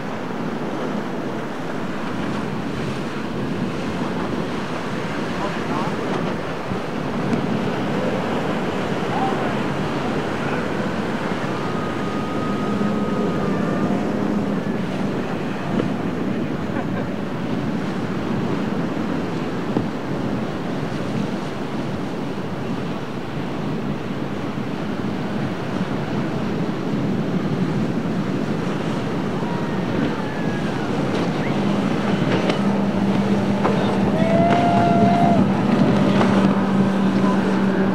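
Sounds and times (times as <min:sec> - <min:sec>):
outboard motor humming: 0:00.0 - 0:22.5, 0:23.3 - 0:37.9
breaking surf: 0:00.0 - 0:37.9
wind on microphone: 0:00.0 - 0:37.9.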